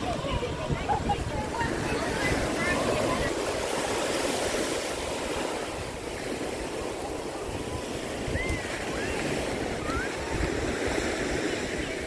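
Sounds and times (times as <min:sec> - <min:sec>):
ocean surf washing up: 0:00.0 - 0:12.0
wind on microphone: 0:00.0 - 0:12.0.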